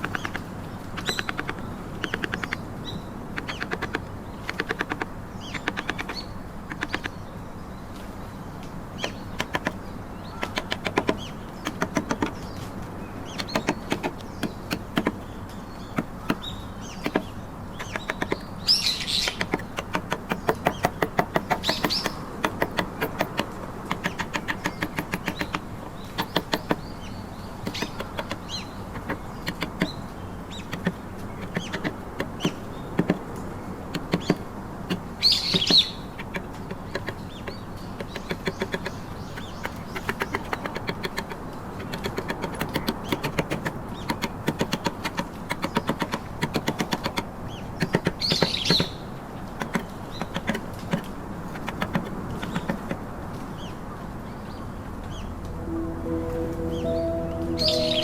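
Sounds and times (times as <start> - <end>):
mallet striking chisel into wood: 1.0 - 2.6, 3.4 - 7.1, 9.0 - 9.8, 10.4 - 12.4, 13.3 - 27.0, 27.6 - 53.0.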